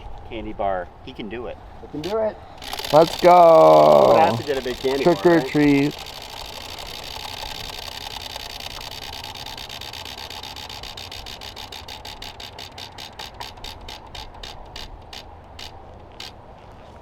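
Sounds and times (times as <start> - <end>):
prize wheel flapper clicking: 2.0 - 16.4.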